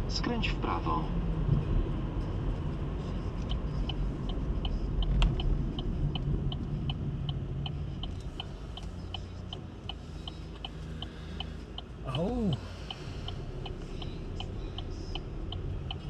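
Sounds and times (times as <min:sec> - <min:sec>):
diesel engine rumble: 0:00.0 - 0:16.0
road noise inside car: 0:00.0 - 0:16.0
turn signal ticking: 0:00.0 - 0:16.0.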